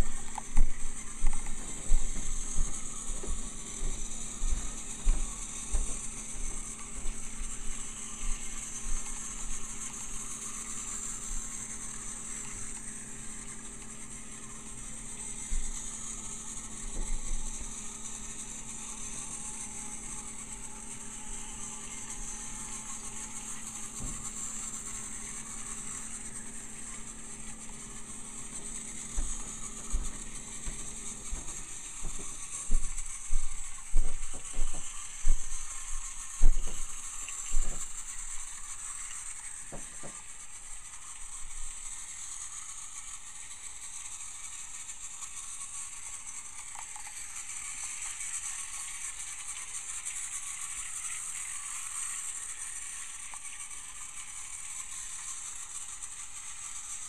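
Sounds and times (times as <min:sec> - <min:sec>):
toy train motor whirring: 0:00.0 - 0:57.0.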